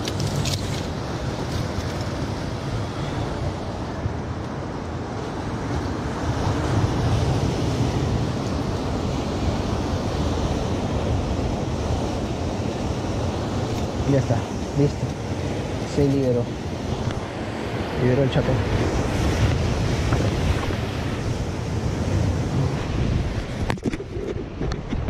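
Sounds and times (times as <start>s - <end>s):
surf washing onto rocks: 0.0s - 25.0s
wind buffeting microphone: 0.0s - 25.0s.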